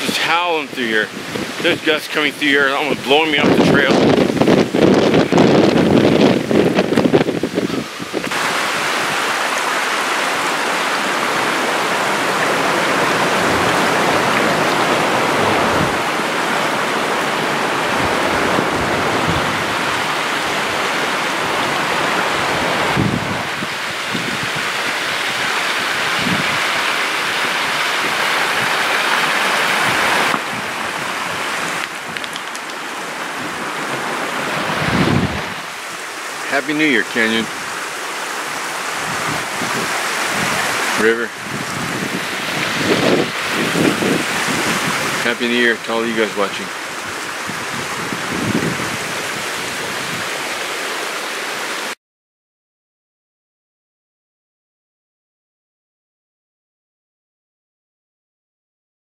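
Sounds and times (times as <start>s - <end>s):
river rushing over rocks: 0.0s - 52.0s.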